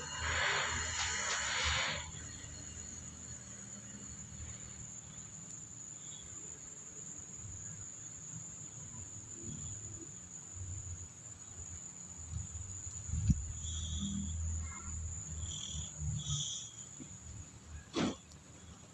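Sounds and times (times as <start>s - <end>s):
high-pitched insect trill: 0.0s - 17.8s.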